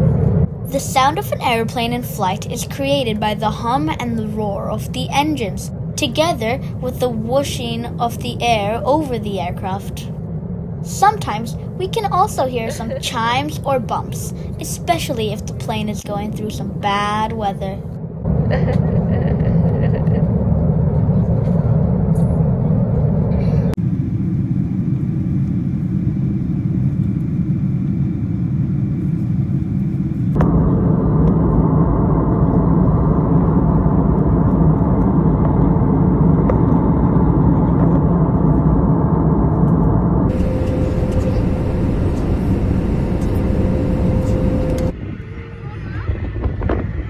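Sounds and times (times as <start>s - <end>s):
jet engines and rushing air: 0.0s - 47.0s
steady hum: 0.0s - 47.0s.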